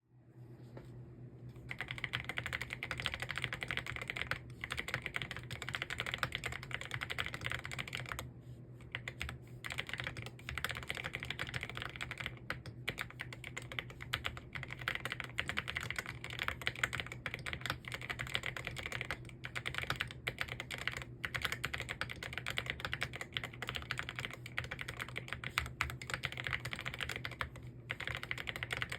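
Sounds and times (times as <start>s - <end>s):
fast typing on keyboard: 1.7s - 28.9s.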